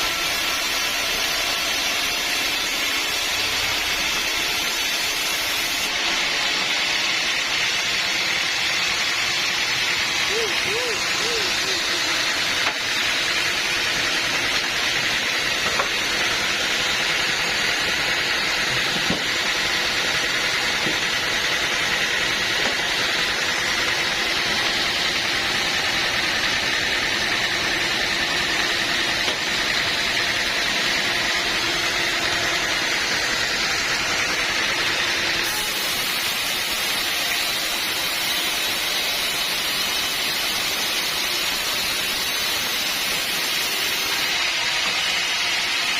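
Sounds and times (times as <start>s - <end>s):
sawmill machinery hissing: 0.0s - 45.9s.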